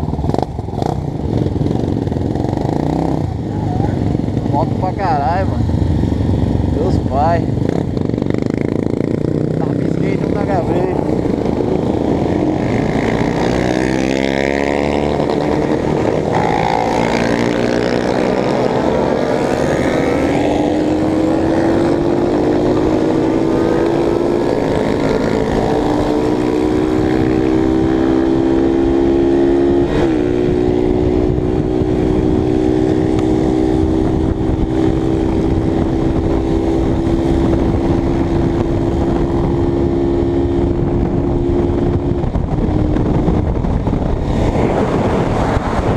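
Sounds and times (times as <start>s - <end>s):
motorcycle engine accelerating: 0.0s - 45.9s
wind noise on microphone: 0.0s - 45.9s.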